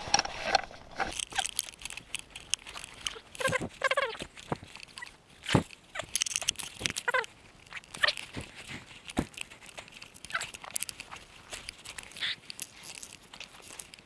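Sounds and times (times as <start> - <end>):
foliage rustling: 0.0 - 14.0
twigs and branches snapping: 1.0 - 14.0.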